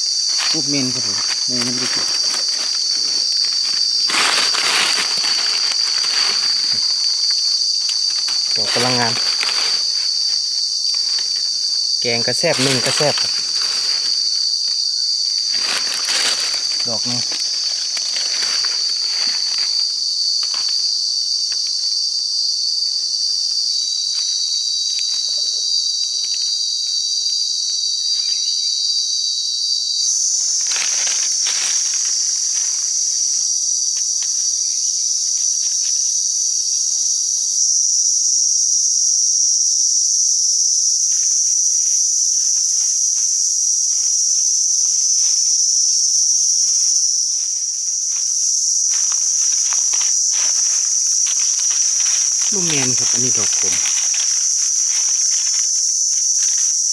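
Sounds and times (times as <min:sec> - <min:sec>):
insects buzzing shrilly: 0:00.0 - 0:56.9.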